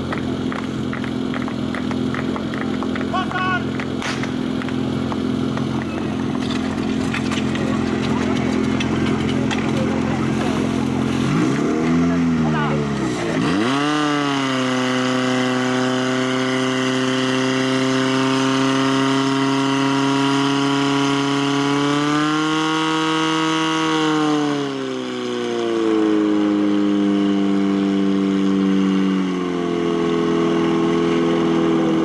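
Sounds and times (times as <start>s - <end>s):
pump engine running: 0.0s - 32.0s.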